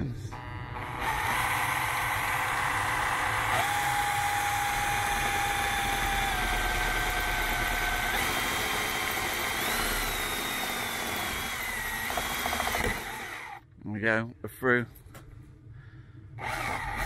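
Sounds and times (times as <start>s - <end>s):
drill motor whining: 0.0s - 13.6s, 16.4s - 17.0s.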